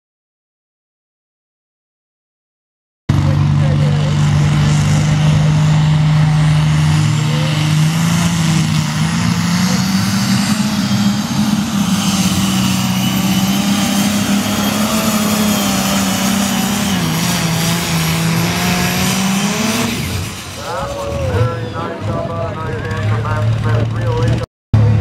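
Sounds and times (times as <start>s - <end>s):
tractor engine running loud: 3.1s - 25.0s.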